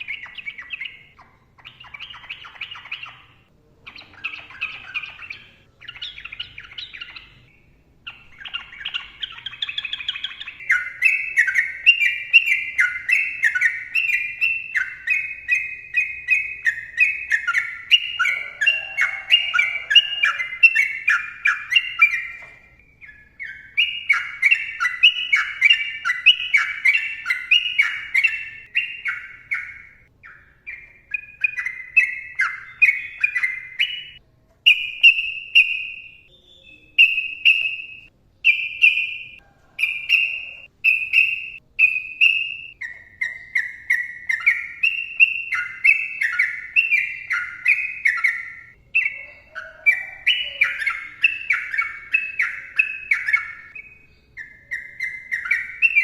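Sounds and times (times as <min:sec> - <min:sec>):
bird singing rapid notes: 0:00.0 - 0:56.0.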